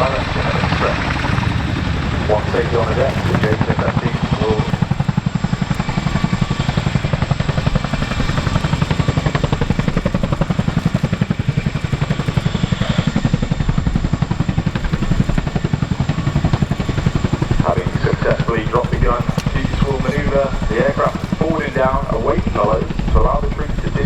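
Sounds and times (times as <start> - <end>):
helicopter rotor blade slap: 0.0 - 24.0
turbine whine: 0.0 - 24.0.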